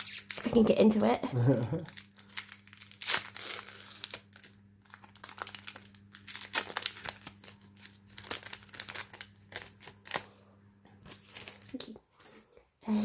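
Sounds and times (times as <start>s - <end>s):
foil wrapper crinkling and tearing: 0.0s - 10.4s, 11.0s - 12.6s.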